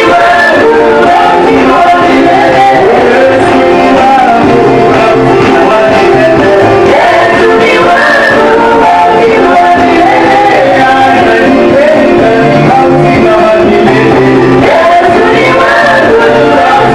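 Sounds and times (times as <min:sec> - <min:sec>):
instrumental accompaniment: 0:00.0 - 0:16.9
voices singing worship song: 0:00.0 - 0:16.9.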